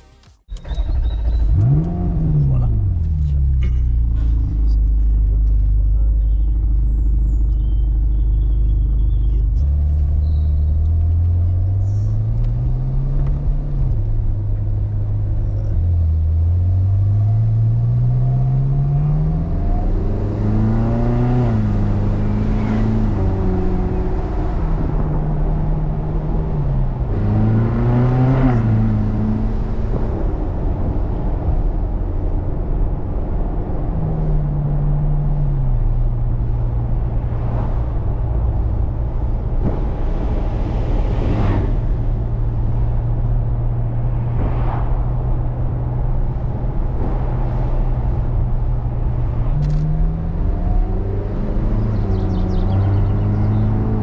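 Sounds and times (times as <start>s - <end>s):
car engine revving through gears: 0.0s - 3.8s, 7.0s - 54.0s.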